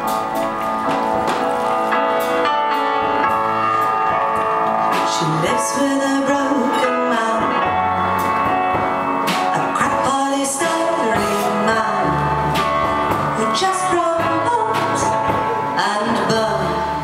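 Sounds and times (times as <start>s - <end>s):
small band accompaniment: 0.0s - 17.0s.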